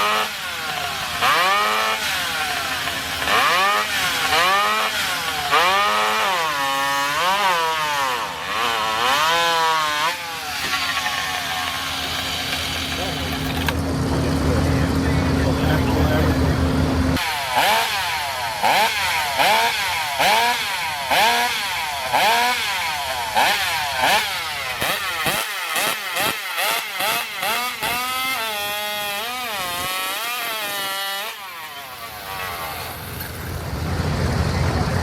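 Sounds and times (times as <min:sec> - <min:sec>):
chainsaw engine revving: 0:00.0 - 0:35.0.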